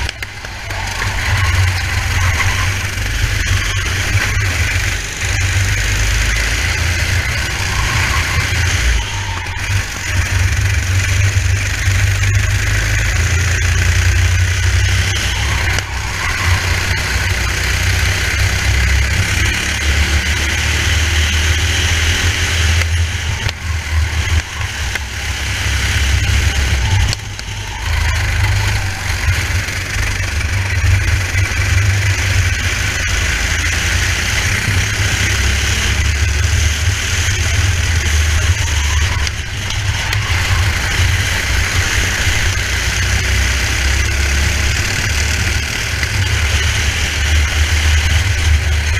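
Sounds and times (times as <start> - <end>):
kart engine running: 0.0 - 48.9.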